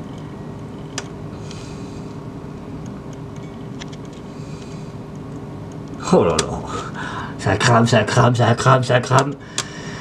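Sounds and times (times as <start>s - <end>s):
fluorescent ballast hum: 0.0s - 10.0s.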